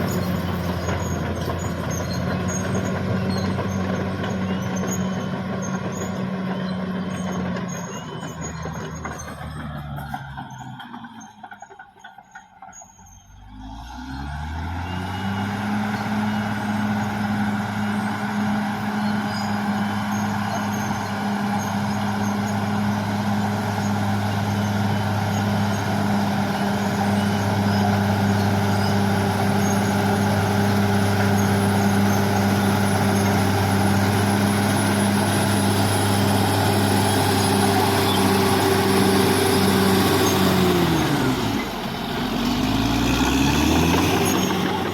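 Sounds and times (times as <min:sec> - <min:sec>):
bulldozer diesel engine revving: 0:00.0 - 0:44.9.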